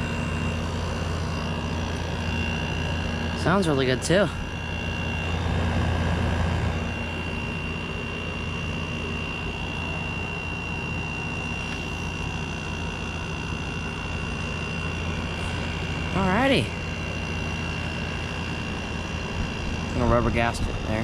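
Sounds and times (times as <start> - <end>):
blower fan whirring: 0.0 - 21.0
compressor hum: 0.0 - 21.0.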